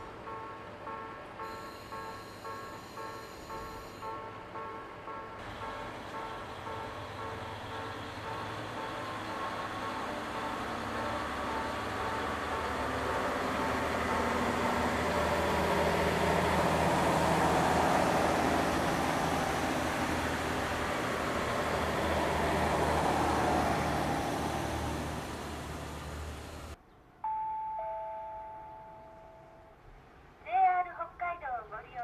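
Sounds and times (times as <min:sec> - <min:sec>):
diesel train engine drone: 0:00.0 - 0:26.8.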